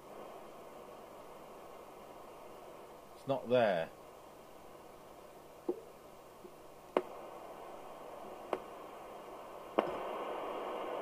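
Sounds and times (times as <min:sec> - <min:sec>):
radio speaker hiss: 0:00.0 - 0:11.0.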